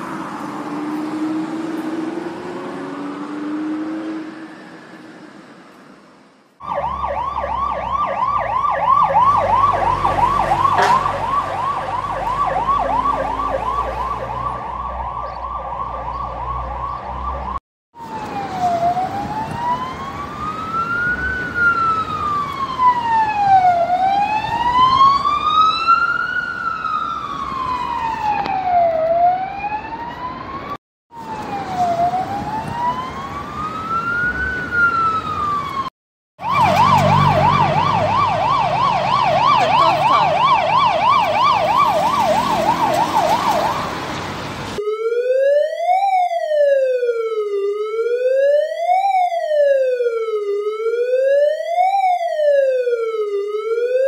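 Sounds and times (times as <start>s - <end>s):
fast yelp siren: 6.6s - 44.0s, 44.8s - 54.0s
police siren wailing: 6.6s - 44.1s, 44.8s - 54.0s.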